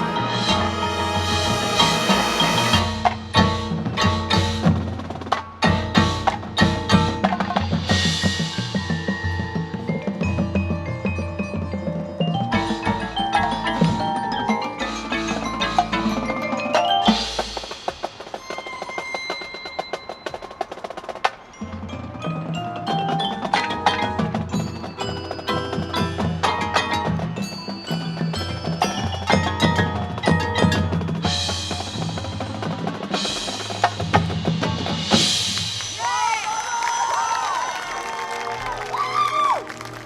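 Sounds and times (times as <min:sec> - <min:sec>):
mallet percussion notes: 0:00.0 - 0:36.3
marching band playing: 0:00.0 - 0:36.3.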